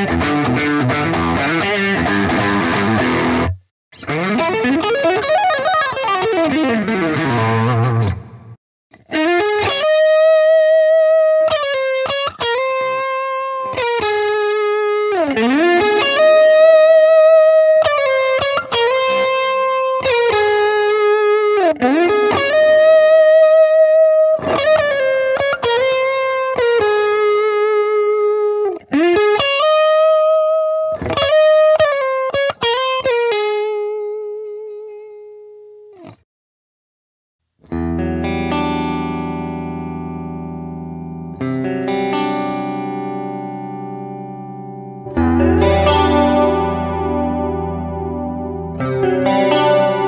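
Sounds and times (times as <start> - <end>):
electric guitar lead with vibrato: 0.0 - 36.2, 37.6 - 50.0.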